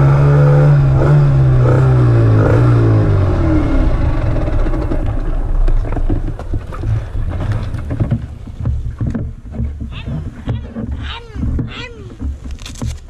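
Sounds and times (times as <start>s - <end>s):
motorcycle engine crackling: 0.0s - 13.0s.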